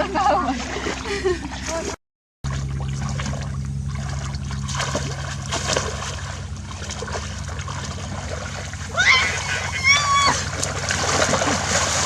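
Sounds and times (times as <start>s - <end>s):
steady low hum: 0.0s - 12.0s
water splashing and trickling: 0.0s - 12.0s.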